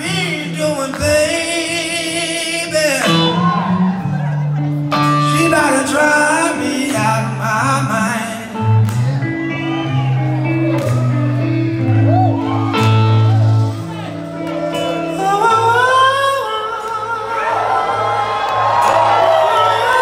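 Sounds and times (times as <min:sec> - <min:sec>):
bass line: 0:00.0 - 0:17.8
person singing: 0:00.0 - 0:18.2, 0:18.8 - 0:20.0
electric guitars: 0:00.0 - 0:20.0
live blues-rock band: 0:00.0 - 0:20.0.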